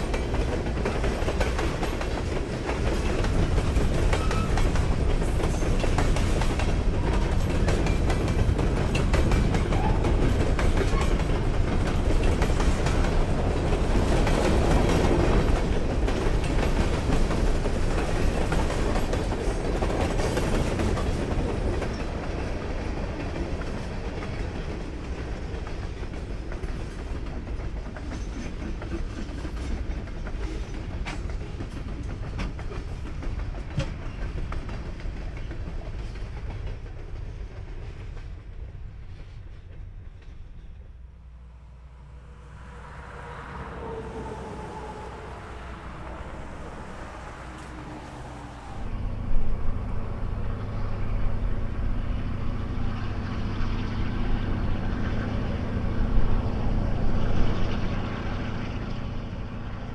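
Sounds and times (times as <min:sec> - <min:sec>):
low rumble of train: 0:00.0 - 0:59.9
train wheels clicking over rails: 0:00.0 - 0:59.9.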